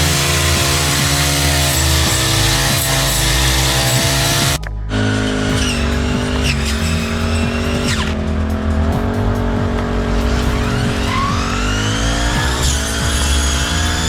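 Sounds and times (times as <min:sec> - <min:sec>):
high whining tones: 0:00.0 - 0:14.0
lawn mower engine running: 0:00.0 - 0:14.0.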